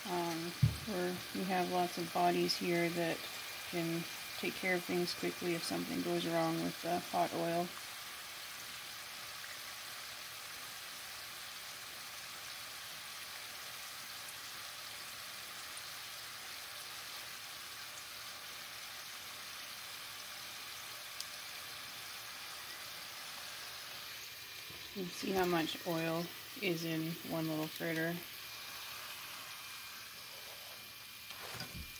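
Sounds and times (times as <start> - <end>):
dough sizzling in hot oil: 0.0 - 31.9.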